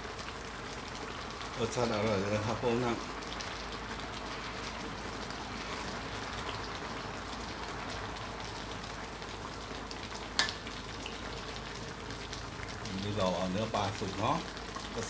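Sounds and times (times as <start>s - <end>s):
curry bubbling in a wok: 0.0s - 15.0s.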